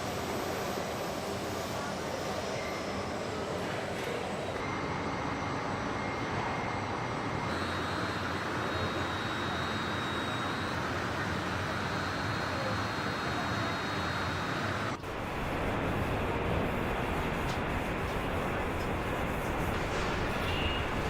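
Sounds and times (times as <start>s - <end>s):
factory machinery hiss and hum: 0.0s - 21.0s
faint high whines: 0.0s - 21.0s.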